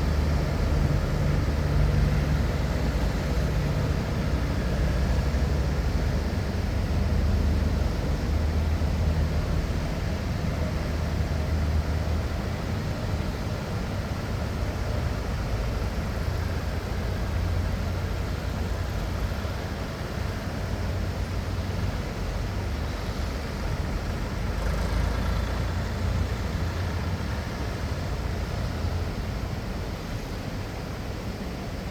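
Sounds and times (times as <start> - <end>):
tractor engines rumbling: 0.0 - 31.9.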